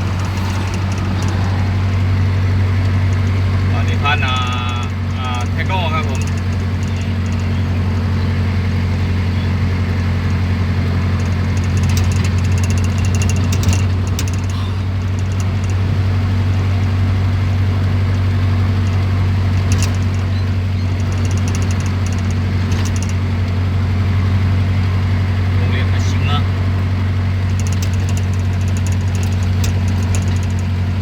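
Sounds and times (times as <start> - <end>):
vehicle engine and road drone: 0.0 - 31.0.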